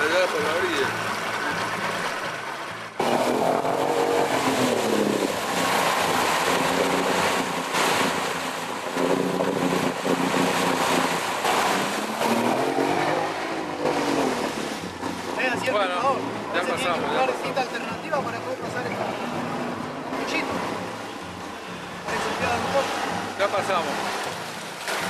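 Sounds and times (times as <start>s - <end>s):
outboard motor revving: 0.0s - 25.0s
propeller churning water: 0.0s - 25.0s.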